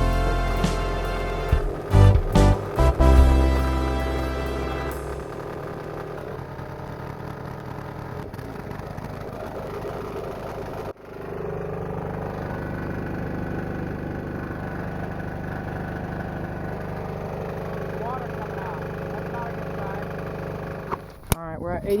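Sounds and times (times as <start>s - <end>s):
diesel air compressor running: 0.0s - 21.2s.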